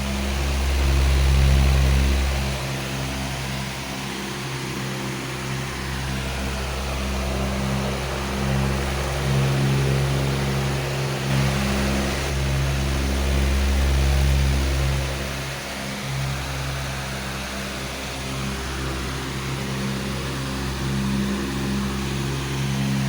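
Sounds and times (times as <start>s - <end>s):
electric fan air rush: 0.0s - 23.0s
fan motor hum: 0.0s - 23.0s.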